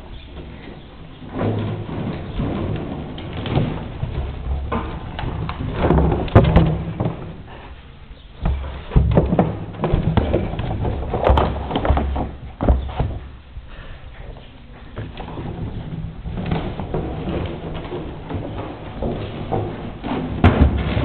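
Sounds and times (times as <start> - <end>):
plastic barrel knocking and thudding: 1.2 - 7.4, 8.4 - 13.4, 15.0 - 21.0.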